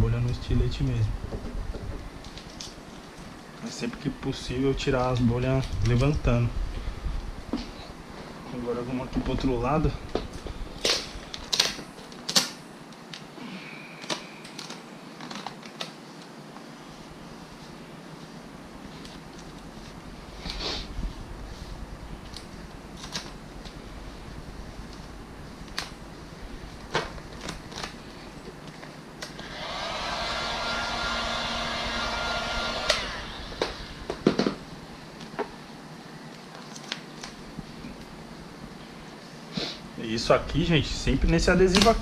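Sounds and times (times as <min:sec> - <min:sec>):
hot-air blower fan whine: 0:00.0 - 0:42.0.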